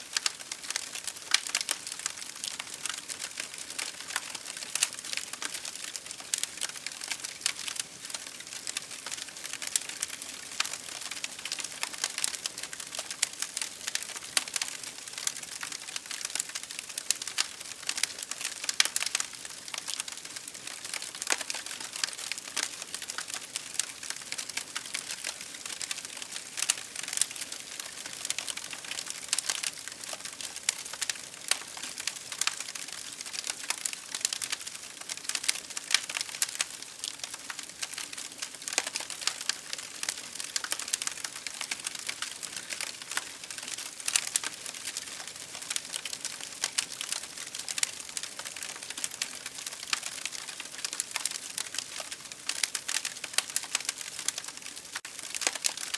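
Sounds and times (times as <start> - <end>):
campfire crackling: 0.1 - 55.9.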